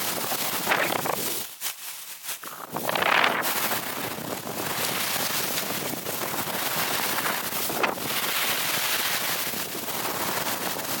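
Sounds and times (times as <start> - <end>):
wind buffeting microphone: 0.0 - 1.4, 2.5 - 11.0
skis sliding over snow: 0.0 - 11.0.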